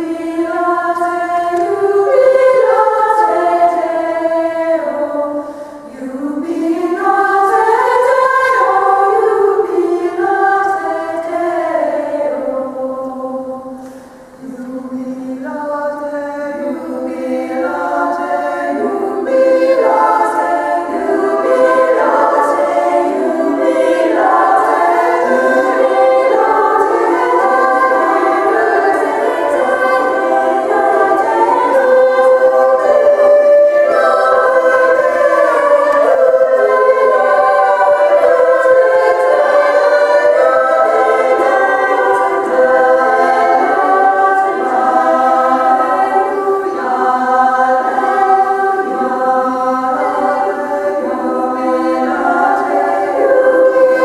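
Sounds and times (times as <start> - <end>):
women's choir singing a cappella: 0.0 - 54.0.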